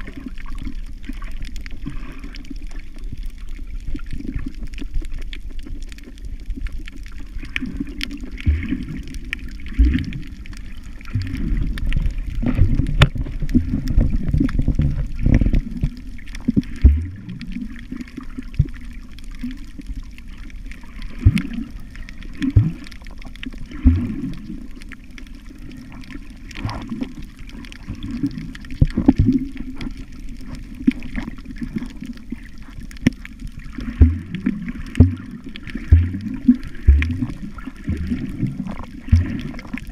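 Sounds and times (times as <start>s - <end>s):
low underwater gurgle: 0.0s - 39.9s
muffled underwater sloshing: 0.0s - 39.9s.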